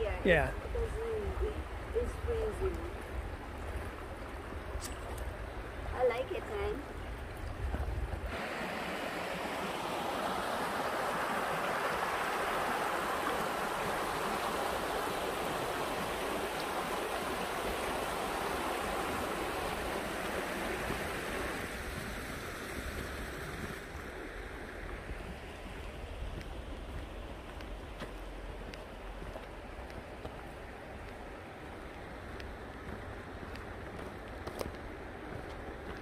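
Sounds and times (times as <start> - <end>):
river rushing over stones: 0.0 - 36.0.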